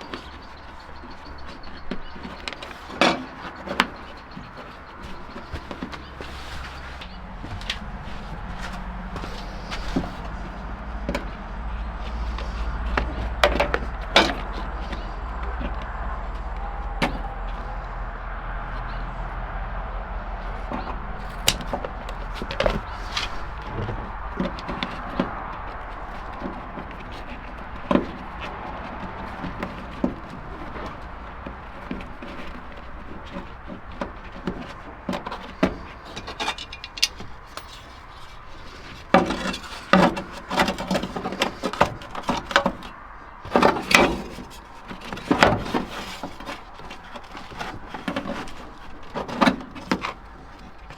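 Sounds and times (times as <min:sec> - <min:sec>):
knocks and scrapes: 0:00.0 - 0:50.9.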